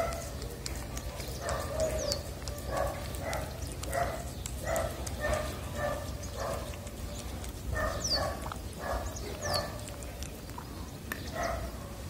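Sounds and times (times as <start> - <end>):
cat chewing food: 0.0 - 12.0.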